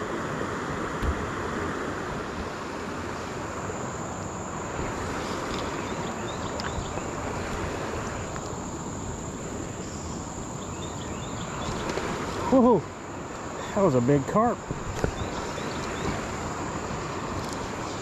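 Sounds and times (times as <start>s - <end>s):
flowing creek water: 0.0s - 18.0s
high-pitched insect drone: 0.0s - 18.0s.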